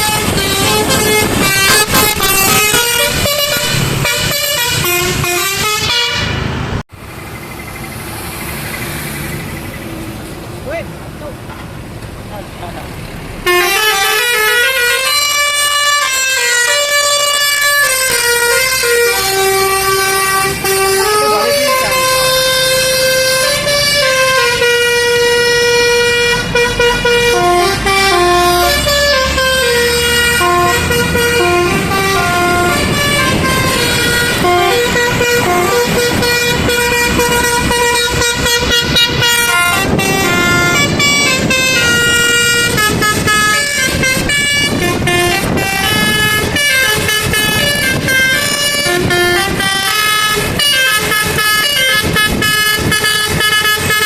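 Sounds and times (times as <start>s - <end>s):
musical air horn tune: 0.0s - 6.4s, 13.4s - 54.0s
engine rumble: 0.0s - 54.0s.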